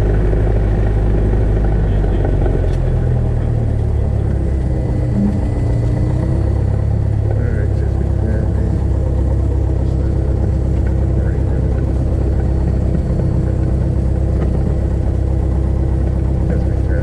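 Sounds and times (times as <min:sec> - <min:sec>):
propeller plane engine idling: 0:00.0 - 0:17.0.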